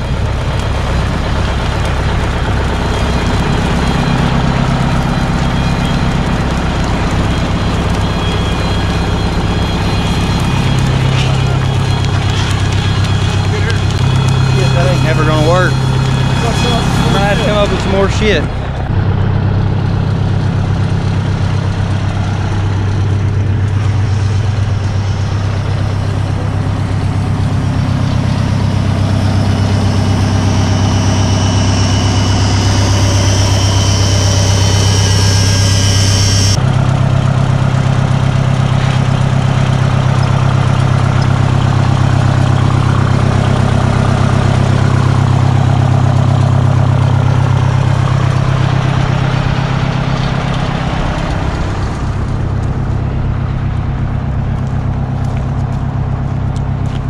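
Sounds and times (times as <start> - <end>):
diesel engine running hard: 0.0 - 57.0.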